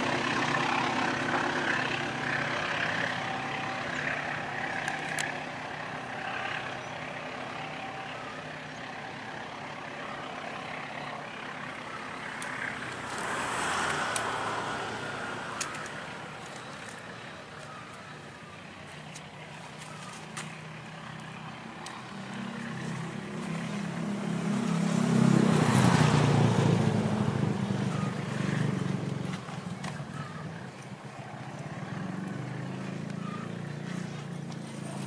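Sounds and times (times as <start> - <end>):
motorcycle engines passing: 0.0 - 35.0.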